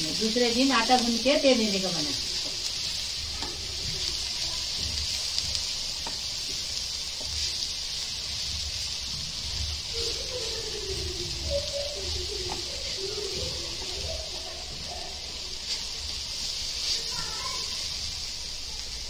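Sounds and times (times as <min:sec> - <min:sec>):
spatula strokes against pan: 0:00.0 - 0:18.4
food sizzling in a frying pan: 0:00.0 - 0:19.0.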